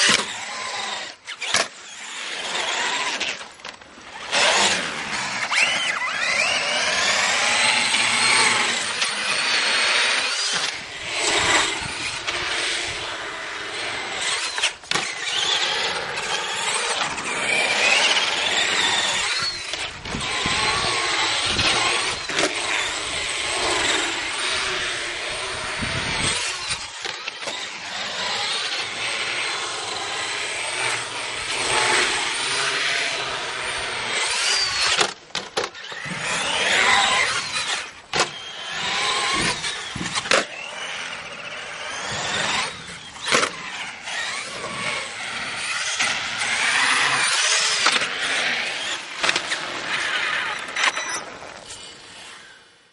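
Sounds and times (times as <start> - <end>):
electric motor whining: 0.0 - 52.7.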